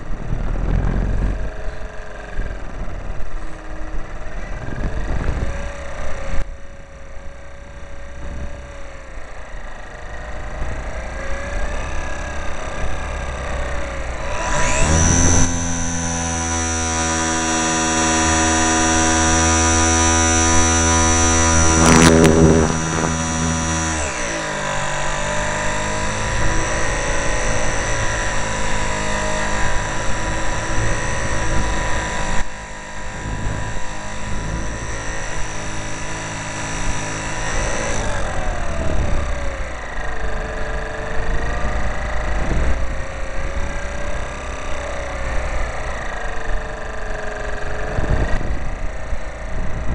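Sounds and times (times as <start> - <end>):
wind rushing over microphone: 0.0 - 7.0, 7.7 - 9.2, 10.0 - 49.9
model airplane motor and propeller: 0.0 - 49.9.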